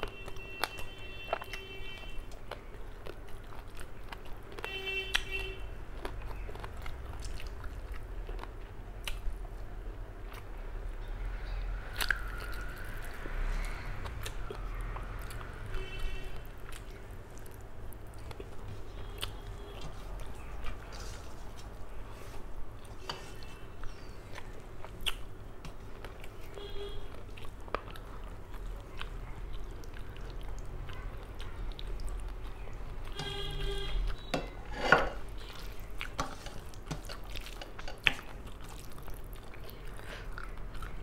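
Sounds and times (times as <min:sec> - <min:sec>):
person chewing: 0:00.0 - 0:09.6, 0:11.9 - 0:34.3, 0:35.2 - 0:41.0.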